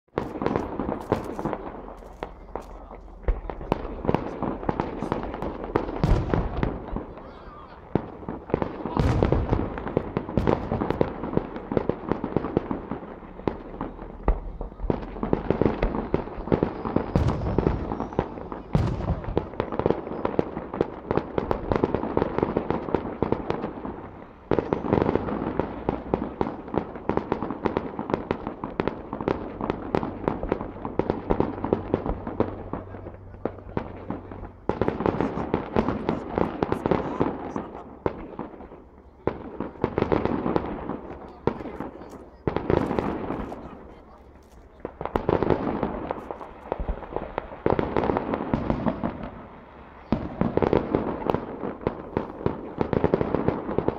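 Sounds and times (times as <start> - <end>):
fireworks bangs and crackle: 0.1 - 53.9.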